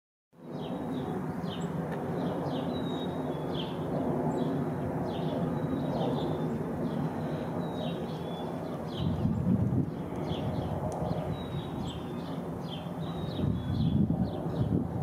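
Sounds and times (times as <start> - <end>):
songbirds chirping: 0.4 - 14.8.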